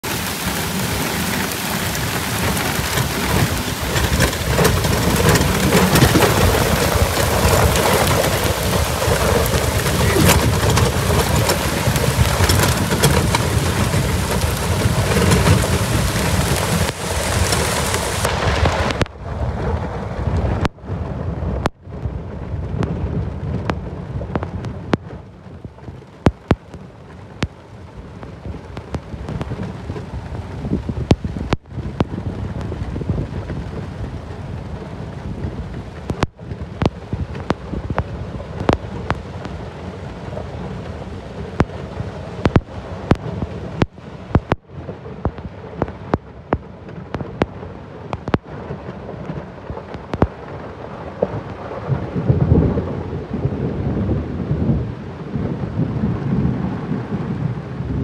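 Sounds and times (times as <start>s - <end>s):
heavy rain pouring: 0.0s - 58.0s
raindrops striking microphone: 0.0s - 58.0s.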